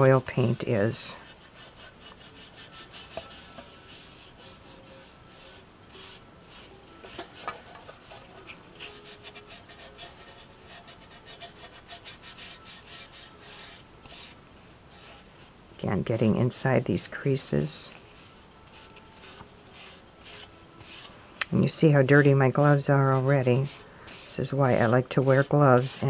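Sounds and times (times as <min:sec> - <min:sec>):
cloth rag rubbing on tin: 0:00.0 - 0:26.0.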